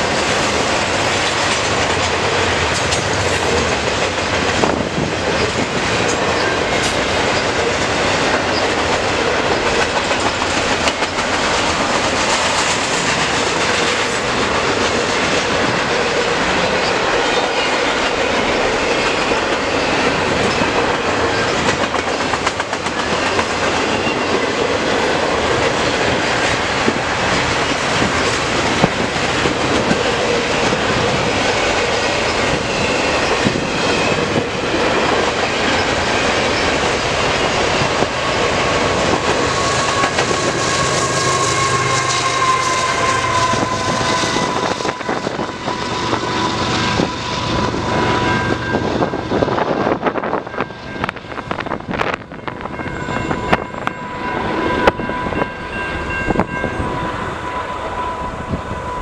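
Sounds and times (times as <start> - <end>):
diesel locomotive engine drone: 0.0 - 59.0
train wheels on rails: 0.0 - 59.0.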